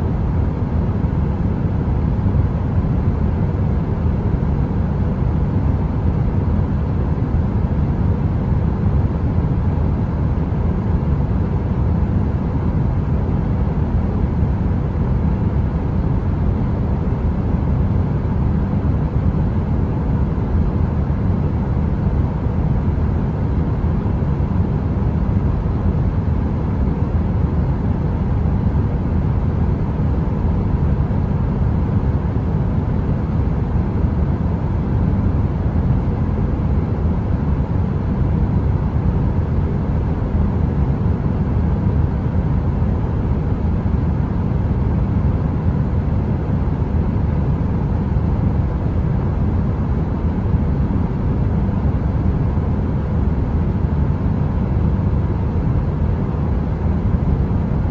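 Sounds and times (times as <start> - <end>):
heater fan rumbling: 0.0 - 57.9.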